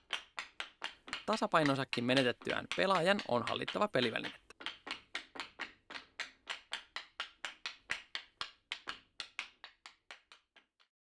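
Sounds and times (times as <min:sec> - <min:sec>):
hockey stick tapping ball: 0:00.0 - 0:10.9.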